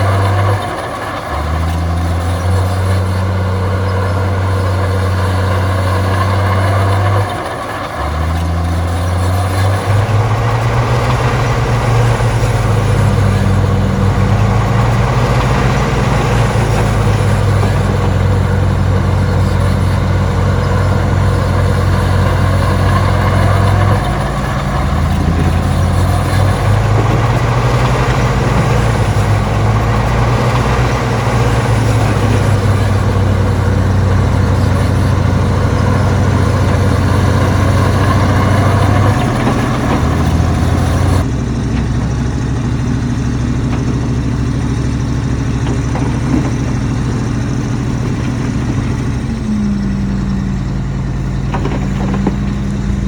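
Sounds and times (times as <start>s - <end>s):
heavy machine diesel engine running: 0.0s - 53.0s.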